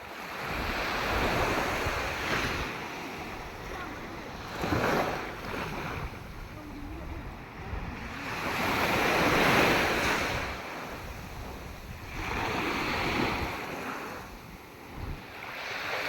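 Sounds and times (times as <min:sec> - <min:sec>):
sea waves surging: 0:00.0 - 0:16.0
wind rumbling on microphone: 0:00.4 - 0:16.0.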